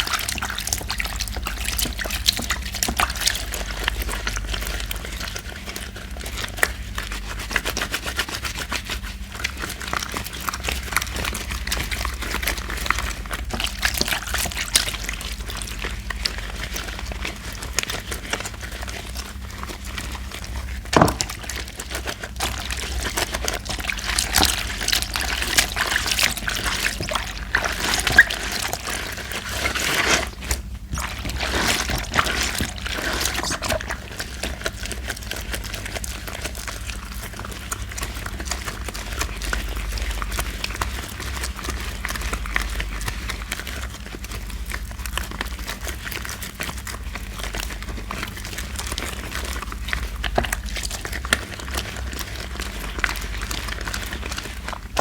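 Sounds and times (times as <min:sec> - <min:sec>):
wet squishing of soap suds: 0:00.0 - 0:55.0.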